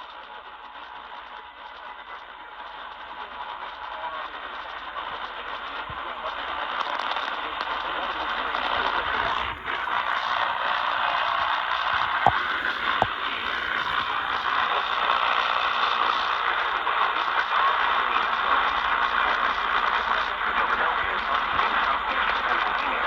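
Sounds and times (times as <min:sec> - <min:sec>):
radio static hiss: 0:00.1 - 0:23.0.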